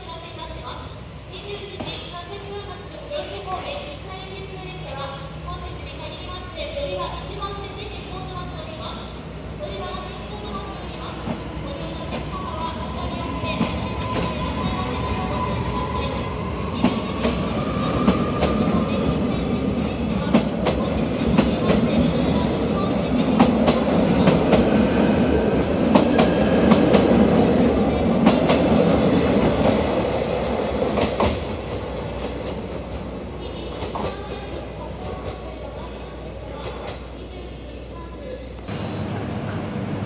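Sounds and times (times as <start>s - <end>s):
rumble of passing train cars: 0.0s - 40.0s.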